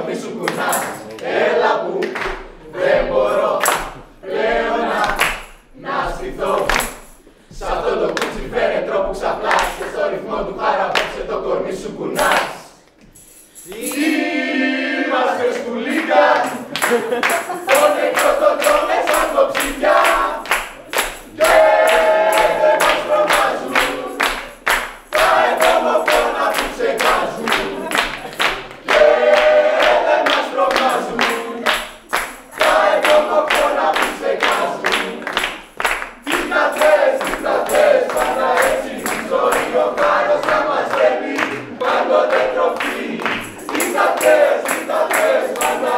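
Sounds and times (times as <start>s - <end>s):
group singing: 0.0s - 13.0s, 13.6s - 45.9s
rhythmic hand clapping: 0.0s - 45.9s.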